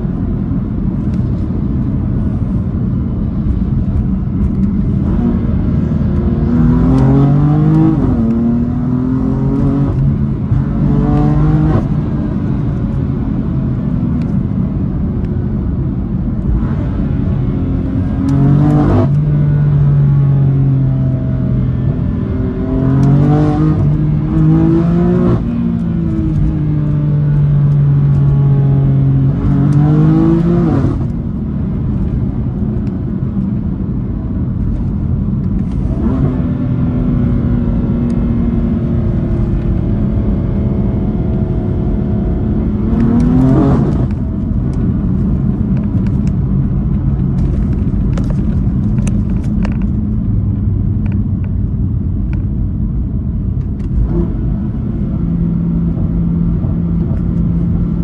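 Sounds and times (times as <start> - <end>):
car engine accelerating: 0.1 - 58.0.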